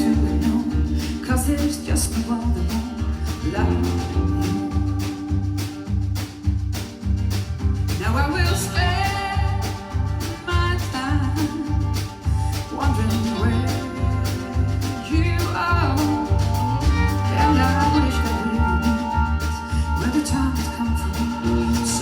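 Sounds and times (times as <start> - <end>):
lead vocal singing: 0.0 - 5.8, 8.0 - 22.0
country rock band playing: 0.0 - 22.0
drums keeping a steady beat: 0.0 - 22.0.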